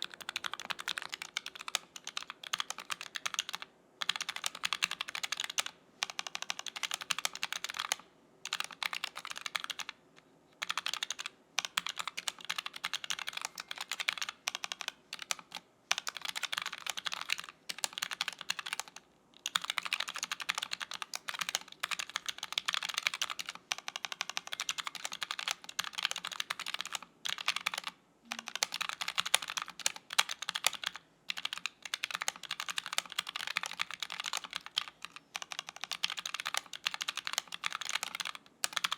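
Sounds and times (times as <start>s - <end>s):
mechanical keyboard typing: 0.0s - 10.0s, 10.6s - 38.9s.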